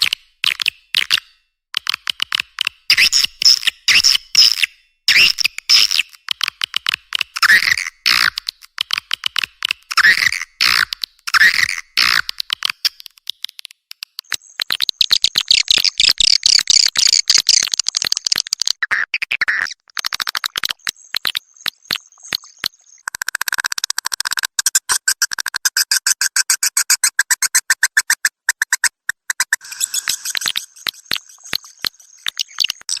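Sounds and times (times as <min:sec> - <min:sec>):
high-pitched twittering clicks: 0:00.0 - 0:33.0.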